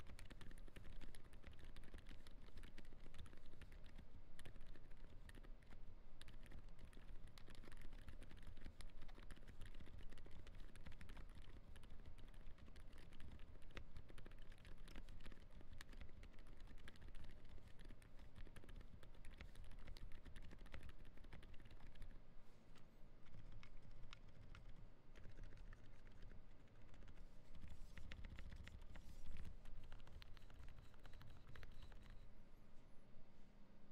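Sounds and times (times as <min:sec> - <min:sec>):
fast typing on keyboard: 0:00.0 - 0:22.2, 0:23.2 - 0:32.2.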